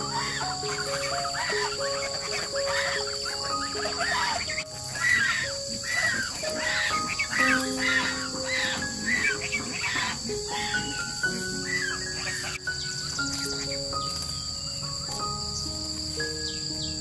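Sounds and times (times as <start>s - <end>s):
background music melody: 0.0s - 17.0s
insects chirring: 0.0s - 17.0s.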